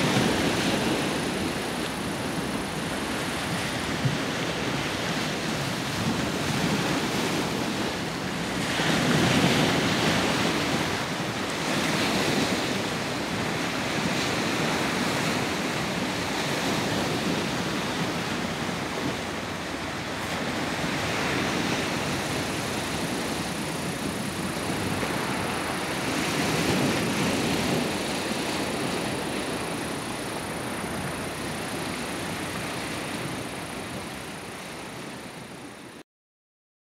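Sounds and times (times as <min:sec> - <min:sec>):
sea waves washing in: 0:00.0 - 0:36.0.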